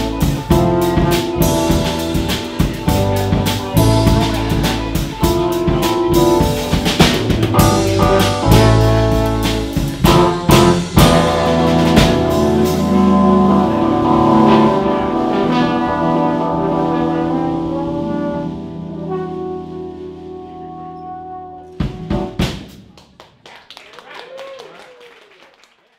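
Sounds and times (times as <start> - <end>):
bass guitar: 0.0 - 22.8
trombone: 0.0 - 22.8
drum kit: 0.0 - 23.0.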